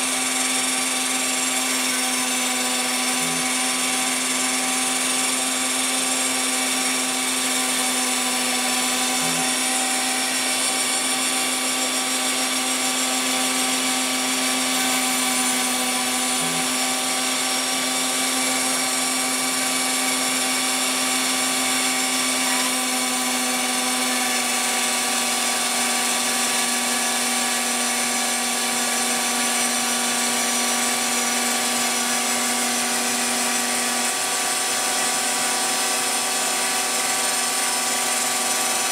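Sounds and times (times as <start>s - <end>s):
mill spindle whine: 0.0s - 38.9s.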